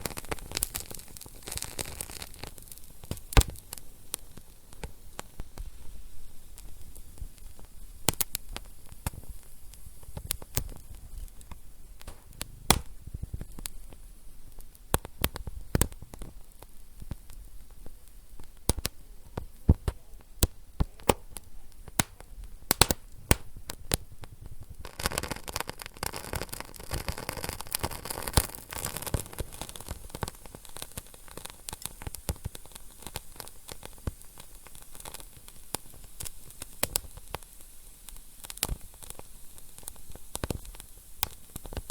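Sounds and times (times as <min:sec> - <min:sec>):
steady hiss: 0:00.0 - 0:41.9
wood fire crackling: 0:00.0 - 0:41.9.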